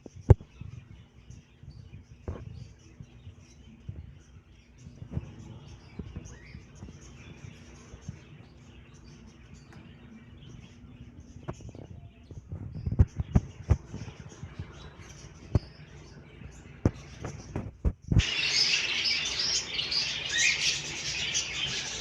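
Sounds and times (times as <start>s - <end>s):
small caged birds chirping: 0.0s - 22.0s.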